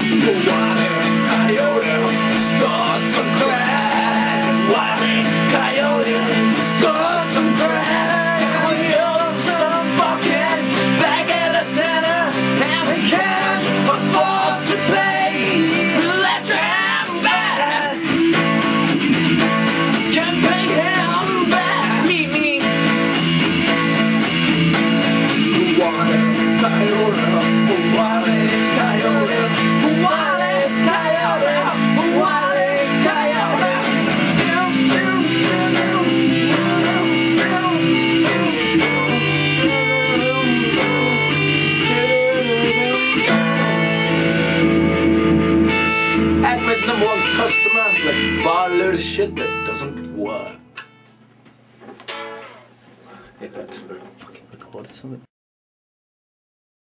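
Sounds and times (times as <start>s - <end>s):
electric guitar lead: 0.0s - 51.1s
acoustic guitar chords: 0.0s - 51.2s.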